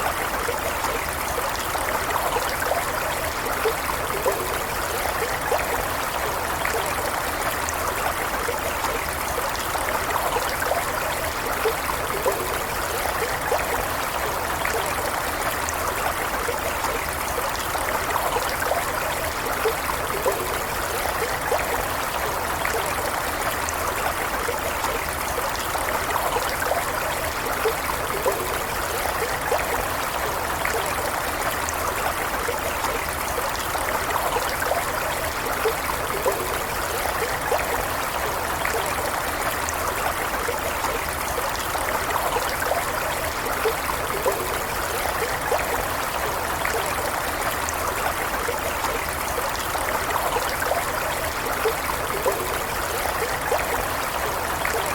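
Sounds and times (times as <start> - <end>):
small water splashes: 0.0 - 54.9
water flowing: 0.0 - 54.9.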